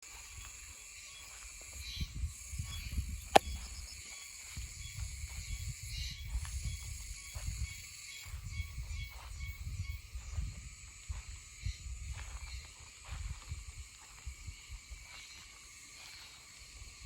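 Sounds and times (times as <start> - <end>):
cicadas calling: 0.0 - 17.0
high insect buzz: 0.1 - 17.0.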